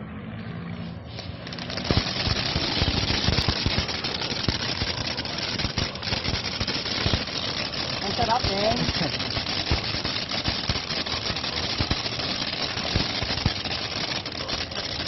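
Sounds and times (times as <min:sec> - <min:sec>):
firework fountain hissing and crackling: 0:01.1 - 0:15.0.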